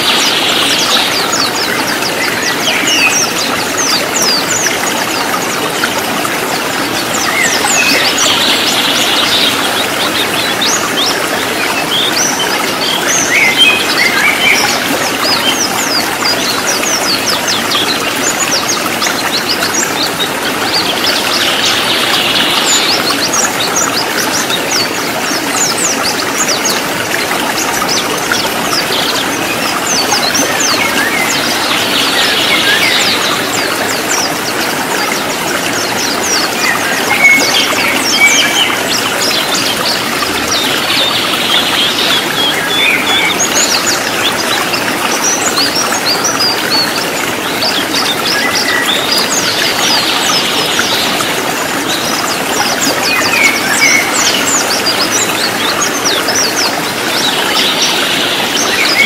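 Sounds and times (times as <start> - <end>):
birds chirping and trilling: 0.0 - 59.0
stream rushing over rocks: 0.0 - 59.0.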